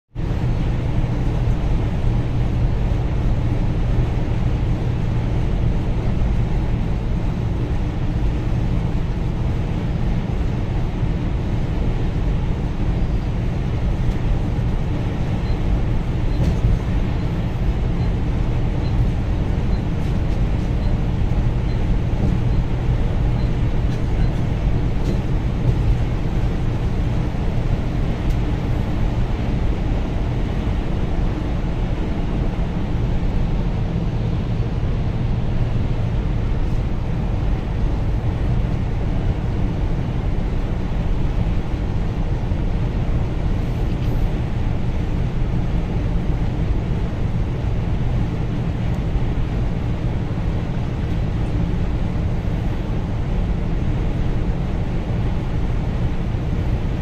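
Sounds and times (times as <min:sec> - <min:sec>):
bus engine hum: 0:00.1 - 0:57.0
road noise: 0:00.1 - 0:57.0.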